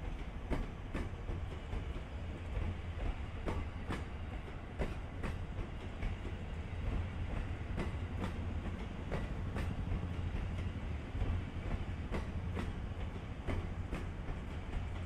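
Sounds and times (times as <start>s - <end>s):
low train rumble: 0.0s - 15.0s
train wheels clacking: 0.0s - 15.0s.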